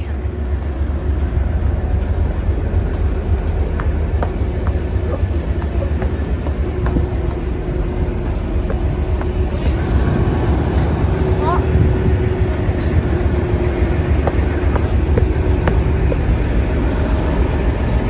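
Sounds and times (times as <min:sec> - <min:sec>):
diesel train engine idling: 0:00.0 - 0:18.0.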